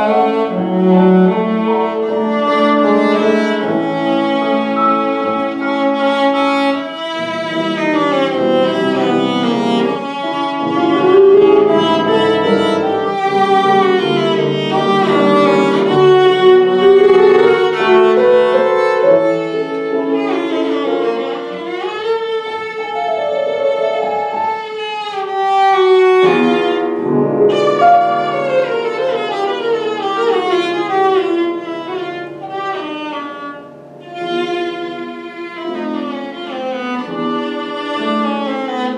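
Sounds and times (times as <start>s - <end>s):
piano accompaniment: 0.0s - 38.9s
violin classical melody: 0.0s - 38.9s.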